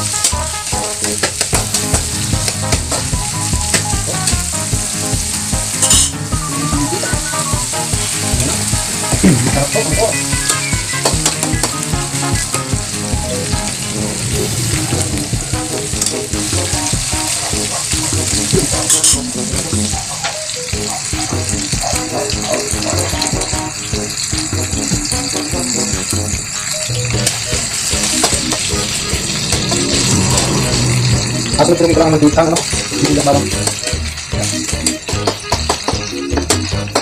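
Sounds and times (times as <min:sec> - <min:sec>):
food sizzling in a wok: 0:00.0 - 0:37.0.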